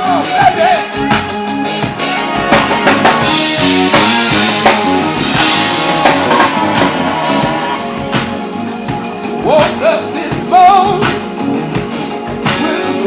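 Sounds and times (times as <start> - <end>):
bass: 0.0 - 13.0
drum kit: 0.0 - 13.0
guitar: 0.0 - 13.0
held keyboard chords: 0.0 - 13.0.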